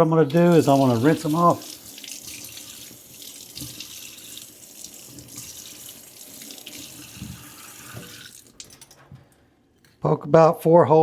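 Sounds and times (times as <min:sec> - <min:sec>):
faucet running water: 0:00.0 - 0:09.0.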